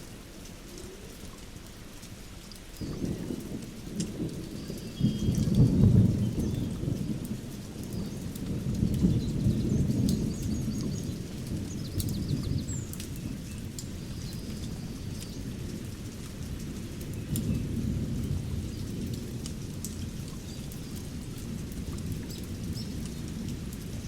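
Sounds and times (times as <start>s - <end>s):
distant thunder rumbling: 2.8s - 24.0s.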